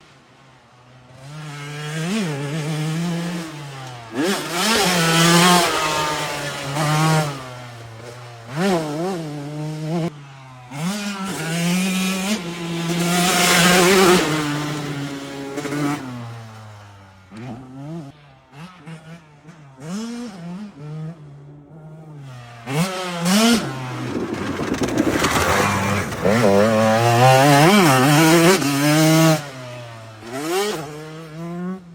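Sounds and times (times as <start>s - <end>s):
dirt bike engine revving: 0.7s - 31.9s.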